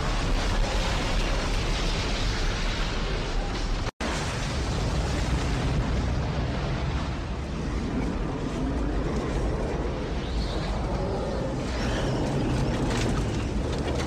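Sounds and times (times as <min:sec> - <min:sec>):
roaring tornado wind: 0:00.0 - 0:14.0.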